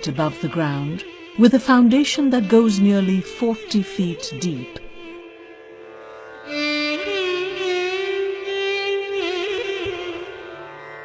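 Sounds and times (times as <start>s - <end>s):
bowed string melody: 0.0s - 11.0s.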